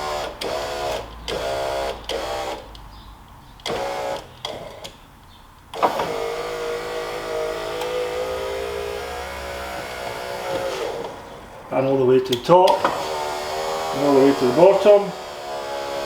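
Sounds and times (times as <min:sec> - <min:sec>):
electric window motor whine: 0:00.0 - 0:02.7, 0:03.6 - 0:05.0, 0:05.7 - 0:11.7, 0:12.7 - 0:16.0.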